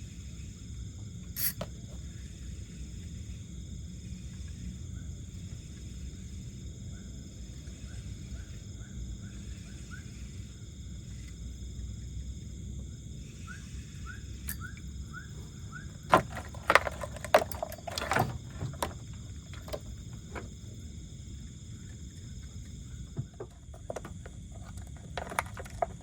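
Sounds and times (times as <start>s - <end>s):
night insects droning: 0.0s - 26.0s.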